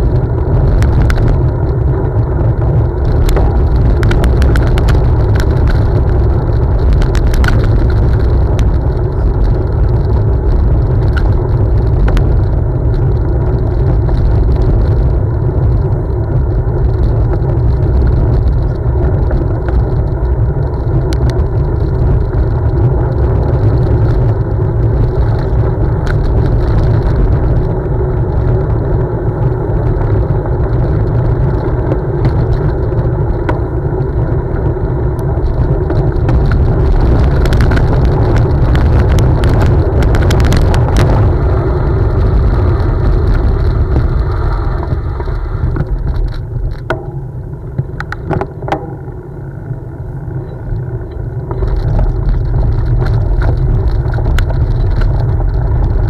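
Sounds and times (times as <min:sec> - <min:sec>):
bike tyres rumbling on gravel: 0:00.0 - 0:56.0
wind on microphone: 0:00.0 - 0:56.0.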